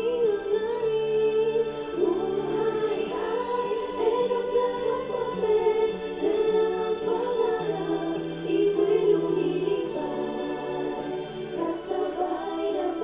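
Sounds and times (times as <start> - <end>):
choir singing sustained notes: 0.0 - 13.0.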